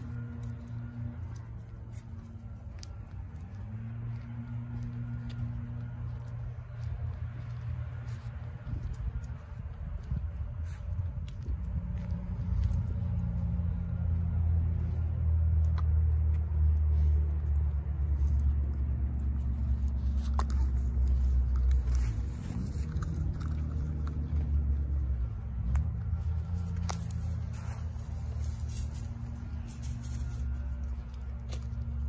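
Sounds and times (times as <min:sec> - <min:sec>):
footsteps in grass: 0:00.0 - 0:32.0
vehicle engine rumbling: 0:00.0 - 0:32.0.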